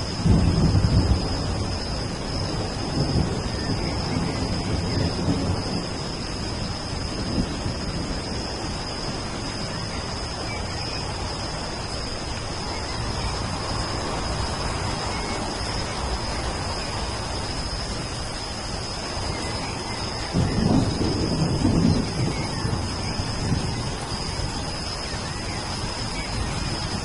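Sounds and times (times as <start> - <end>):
low rumble of thunder: 0.0 - 27.0
steady rain: 0.0 - 27.0.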